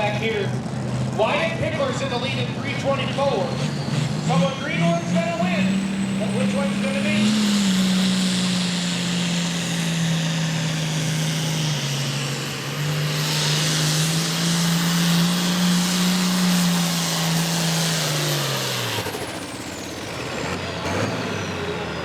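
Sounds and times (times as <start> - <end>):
diesel engine at full throttle: 0.0 - 22.0
high turbo whine: 0.0 - 22.0.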